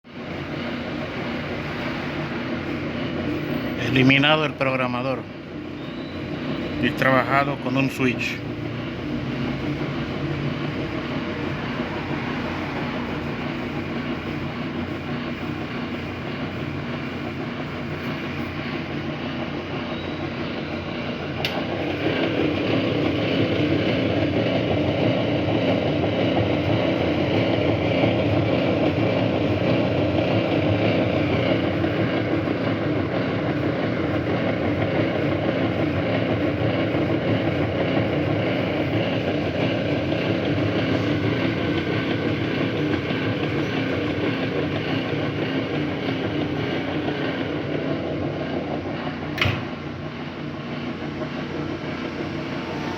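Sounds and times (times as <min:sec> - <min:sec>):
washing machine motor drone: 0:00.1 - 0:52.9.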